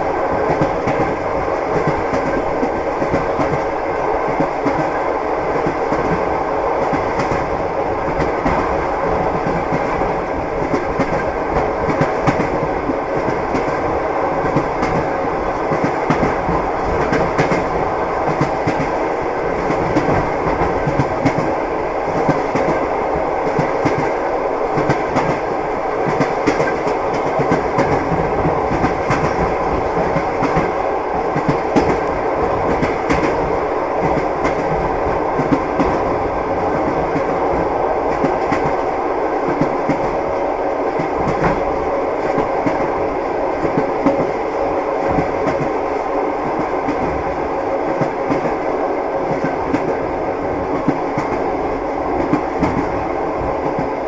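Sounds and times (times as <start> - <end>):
train wheels rumbling and clicking: 0.0 - 54.0.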